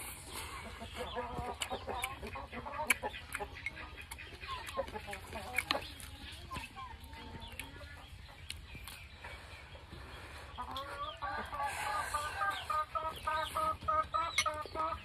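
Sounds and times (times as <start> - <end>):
hen clucking: 0.0 - 15.0.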